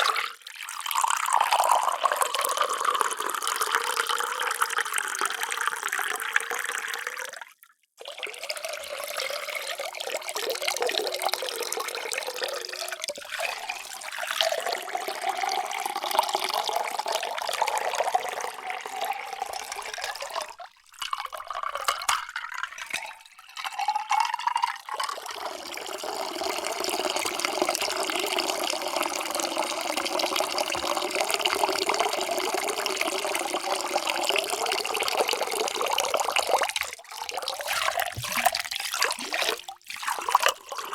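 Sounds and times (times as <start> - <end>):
water pouring into a container: 0.0 - 40.9.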